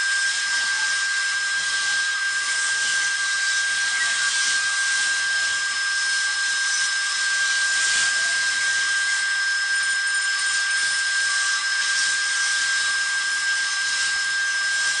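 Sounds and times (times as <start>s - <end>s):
high-pitched whine: 0.0s - 15.0s.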